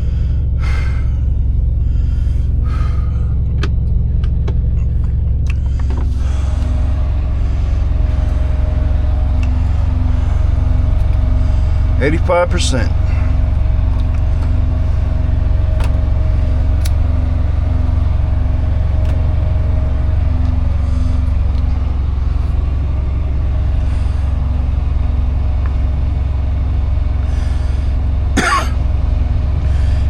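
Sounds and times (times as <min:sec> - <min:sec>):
diesel engine low drone: 0:00.0 - 0:30.0.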